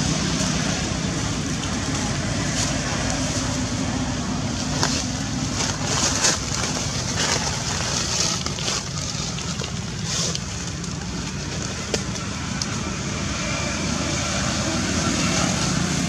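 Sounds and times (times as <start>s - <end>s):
dry leaves crackling and rustling: 0.0s - 16.0s.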